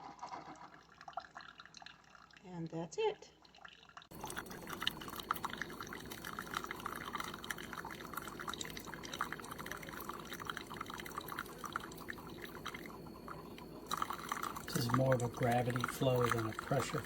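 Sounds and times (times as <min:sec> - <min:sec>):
coffee dripping into a mug: 0:00.1 - 0:02.4, 0:03.4 - 0:17.0.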